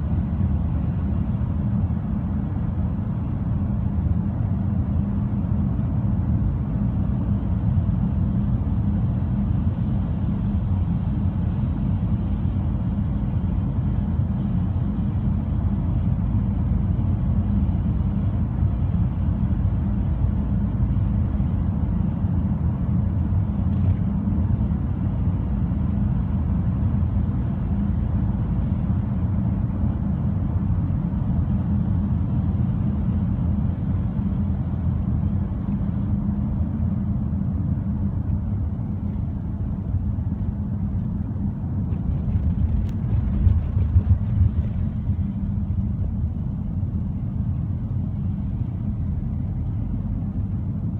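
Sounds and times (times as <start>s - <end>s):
road and engine rumble in car: 0.0s - 50.9s.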